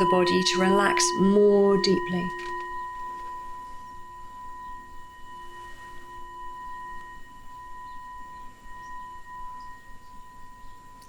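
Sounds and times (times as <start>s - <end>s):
high ringing meditation tone: 0.0s - 11.0s
lower tone: 0.0s - 11.0s.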